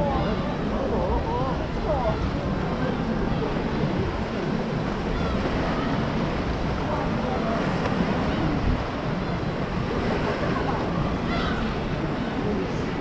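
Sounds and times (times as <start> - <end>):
sea waves washing in: 0.0 - 13.0
wind noise on microphone: 0.0 - 13.0.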